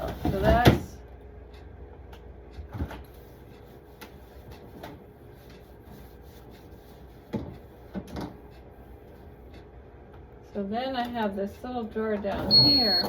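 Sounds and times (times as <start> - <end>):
refrigerator low hum: 0.0 - 13.0.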